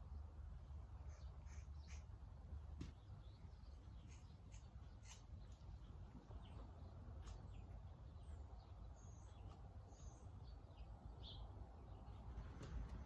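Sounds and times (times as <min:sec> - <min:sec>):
low outdoor rumble: 0:00.0 - 0:13.0
faint bird chirps: 0:00.9 - 0:13.0.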